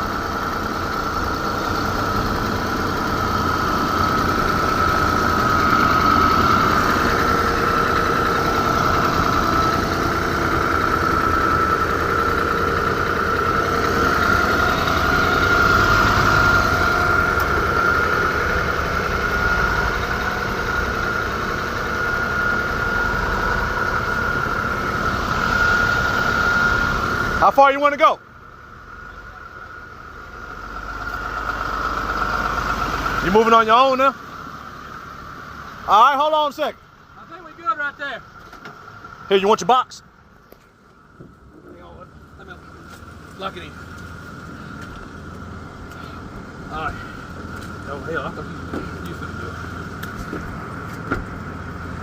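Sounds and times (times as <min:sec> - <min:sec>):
steady high whine: 0:00.0 - 0:52.0
vehicle engines running: 0:00.0 - 0:52.0.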